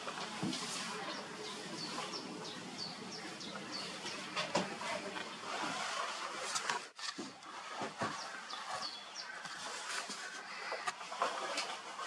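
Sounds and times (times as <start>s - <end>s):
steady outdoor hiss: 0.0s - 10.8s.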